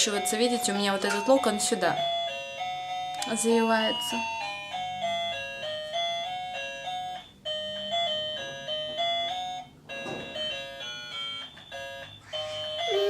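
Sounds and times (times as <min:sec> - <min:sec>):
chiming melody: 0:00.0 - 0:13.0.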